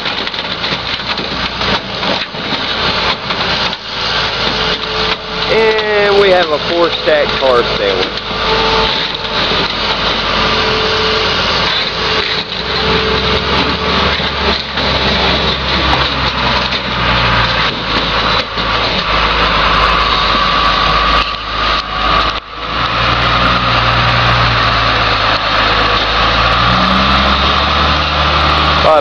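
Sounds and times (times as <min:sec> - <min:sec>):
metal clunks and scrapes: 0:00.0 - 0:23.6
diesel engine working hard: 0:00.0 - 0:29.0.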